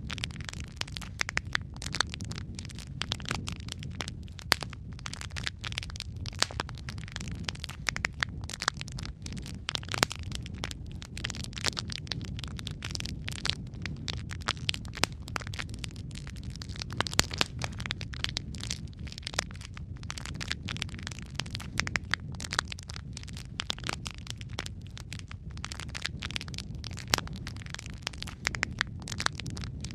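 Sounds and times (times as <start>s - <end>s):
logs crackling and popping: 0.0s - 29.9s
low rumble of flames: 0.0s - 29.9s.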